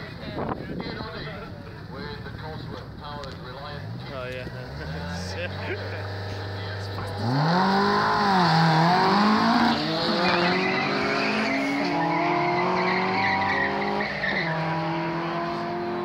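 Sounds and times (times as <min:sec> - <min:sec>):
drag racing cars launching: 0:02.2 - 0:16.0.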